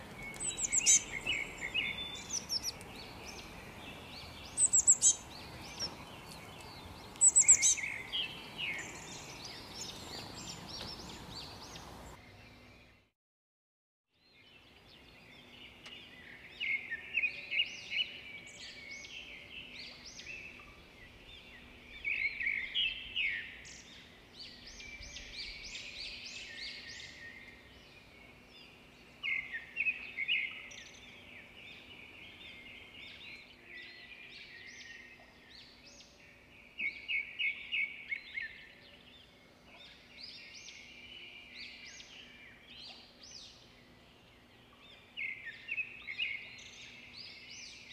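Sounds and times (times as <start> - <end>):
birds chirping and twittering: 0.0 - 13.1, 14.2 - 47.9.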